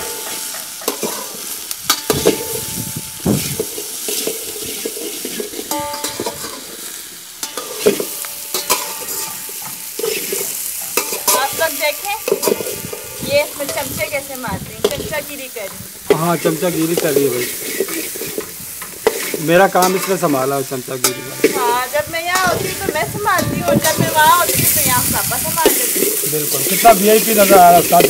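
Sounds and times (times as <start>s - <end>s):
vegetables sizzling in oil: 0.0s - 28.0s
metal spoon scraping pan: 0.1s - 2.7s, 3.3s - 28.0s.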